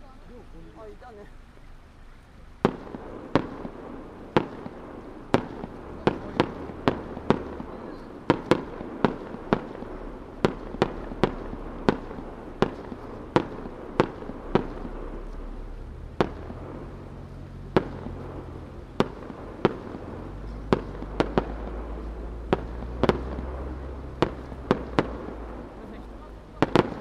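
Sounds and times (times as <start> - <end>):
distant firework shells bursting: 2.4 - 27.0.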